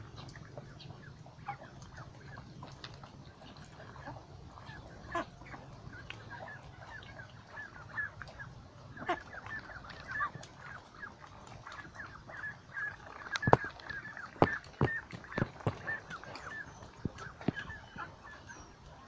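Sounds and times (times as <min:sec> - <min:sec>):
ducks calling: 0:00.0 - 0:19.0.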